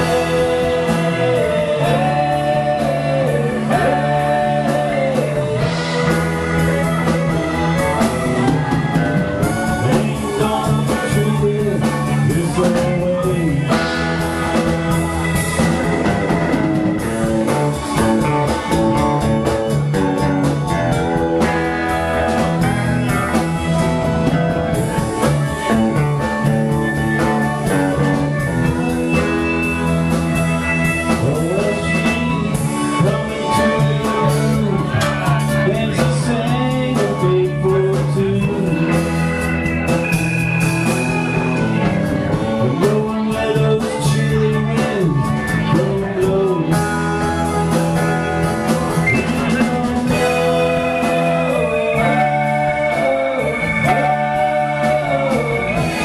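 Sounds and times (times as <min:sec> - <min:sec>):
drum kit: 0:00.0 - 0:56.0
electric guitar: 0:00.0 - 0:56.0
electric keyboard: 0:00.0 - 0:56.0
fiddle: 0:00.0 - 0:56.0.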